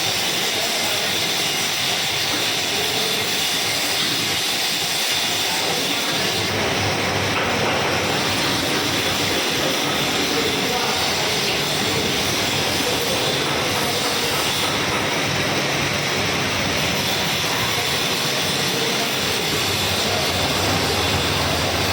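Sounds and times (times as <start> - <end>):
metal lathe running: 0.0 - 21.9.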